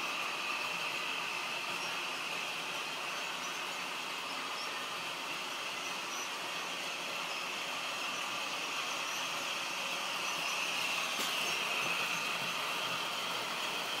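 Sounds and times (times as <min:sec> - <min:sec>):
diesel engine sound from small speaker: 0:00.0 - 0:14.0.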